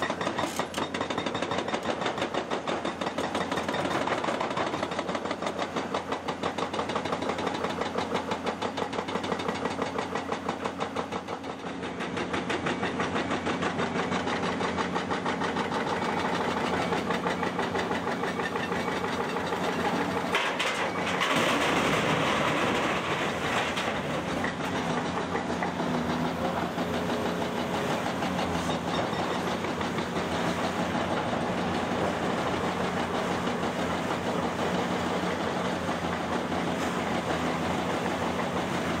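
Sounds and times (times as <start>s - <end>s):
diesel excavator engine running: 0.0s - 39.0s.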